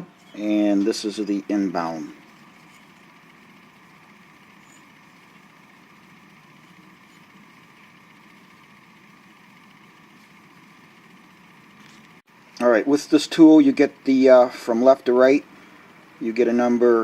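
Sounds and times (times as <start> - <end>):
faint background hum and hiss: 0.0 - 17.0.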